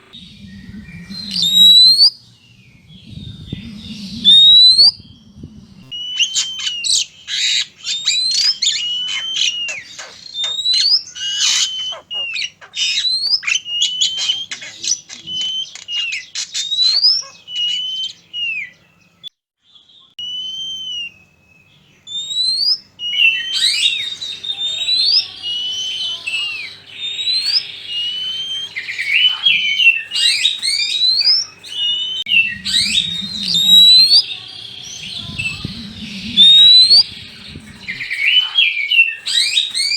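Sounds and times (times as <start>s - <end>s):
birds scratchy chattering: 0.0s - 19.0s, 21.8s - 39.9s
birds whistling song: 0.0s - 39.9s.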